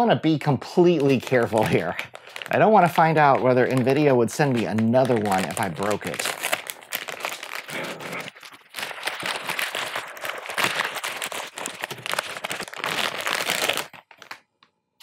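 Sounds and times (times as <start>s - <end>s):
plastic wrap crinkling: 0.8s - 14.8s.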